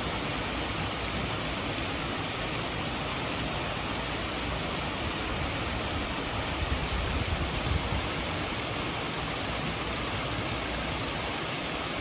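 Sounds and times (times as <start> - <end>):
waterfall splashing into pond: 0.0 - 12.0.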